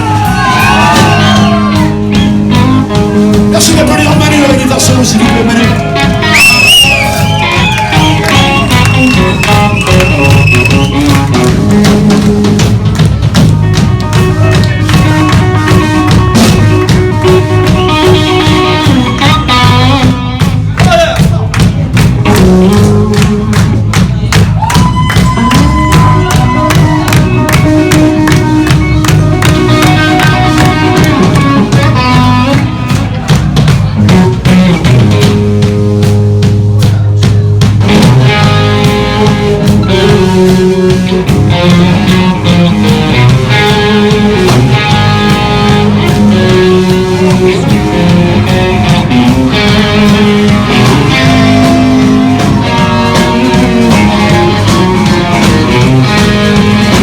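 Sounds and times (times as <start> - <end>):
electric guitar solo: 0.0 - 21.3, 22.2 - 33.3, 37.9 - 57.0
live rock band playing: 0.0 - 57.0.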